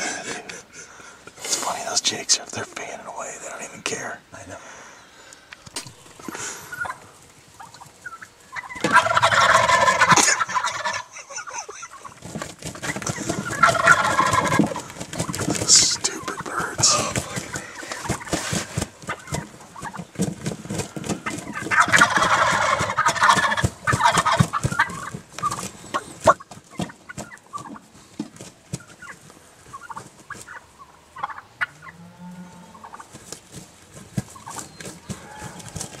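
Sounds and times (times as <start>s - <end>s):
wild turkeys gobbling: 0.0s - 36.0s.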